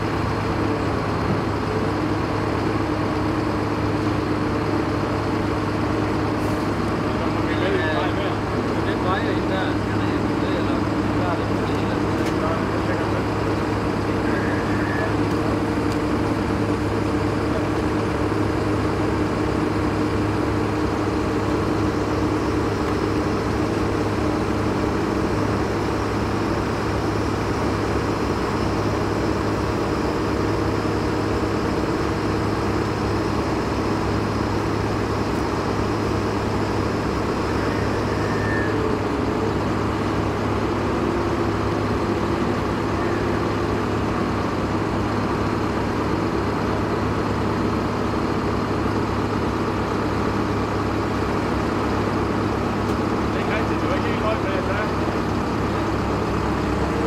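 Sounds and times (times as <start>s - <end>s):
heavy machinery engine droning: 0.0s - 57.0s.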